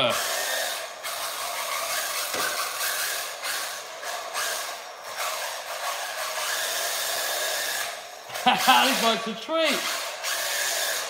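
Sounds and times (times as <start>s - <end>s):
rc car electric motor whirring: 0.0s - 11.0s.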